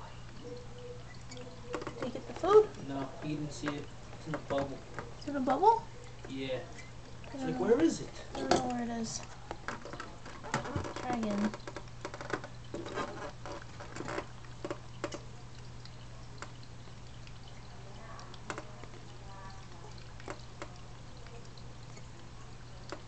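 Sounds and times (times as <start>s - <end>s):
faint clicks and taps: 0.2s - 7.2s, 8.4s - 23.0s.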